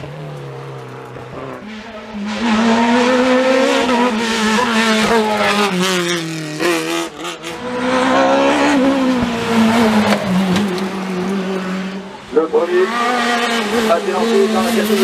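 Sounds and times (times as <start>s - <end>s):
race car engine accelerating: 0.0s - 15.0s.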